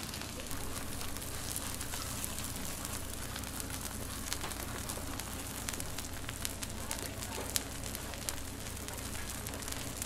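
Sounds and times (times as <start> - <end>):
low steady hum: 0.0 - 10.0
oil sizzling on a griddle: 0.0 - 10.0.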